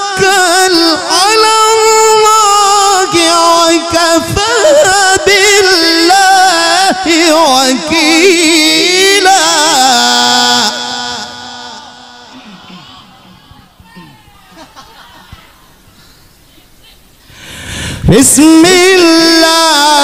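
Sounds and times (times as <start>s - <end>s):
man reciting melodically into microphone: 0.0s - 14.2s, 17.4s - 20.0s.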